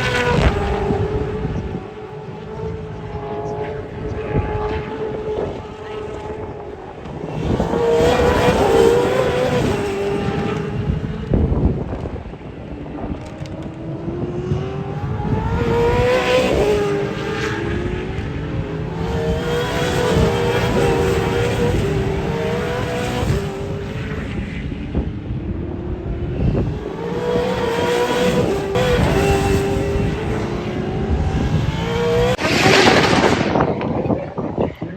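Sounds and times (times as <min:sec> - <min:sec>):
race car engines revving past: 0:00.0 - 0:34.9.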